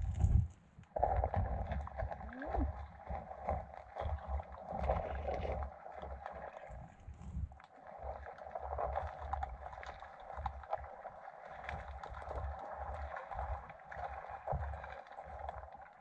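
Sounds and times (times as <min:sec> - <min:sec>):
underwater knocks and clicks: 0:00.0 - 0:15.9
low underwater rumble: 0:00.0 - 0:16.0.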